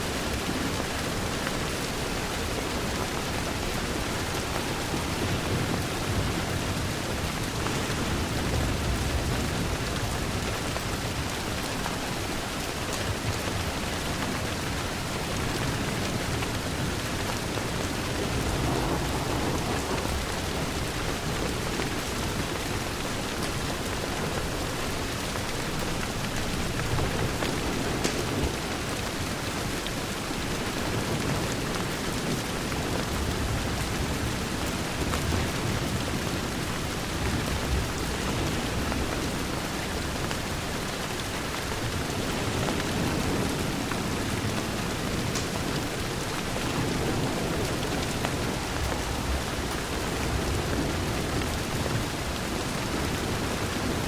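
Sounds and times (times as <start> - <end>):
rain pattering on window: 0.0 - 54.0.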